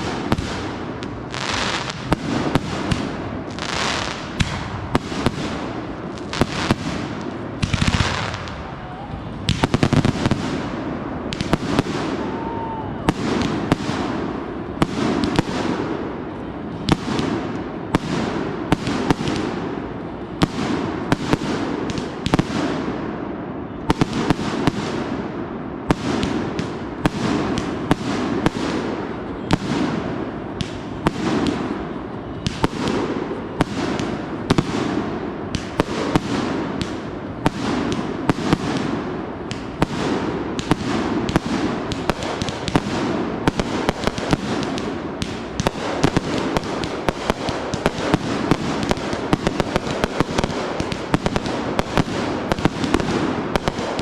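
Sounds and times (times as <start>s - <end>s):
fireworks shots and bursts: 0.0s - 54.0s.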